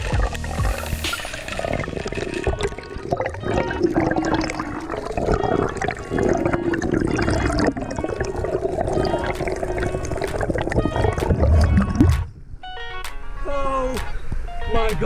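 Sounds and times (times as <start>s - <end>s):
muffled underwater rushing water: 0.0s - 12.5s.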